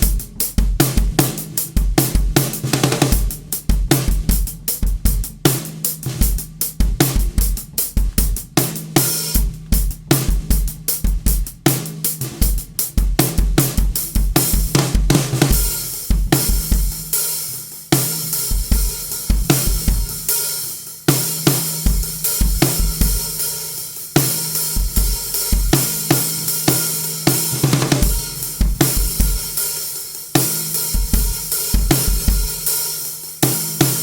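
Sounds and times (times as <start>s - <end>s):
bass drum: 0.0s - 34.0s
low tuned snare drum: 0.0s - 34.0s.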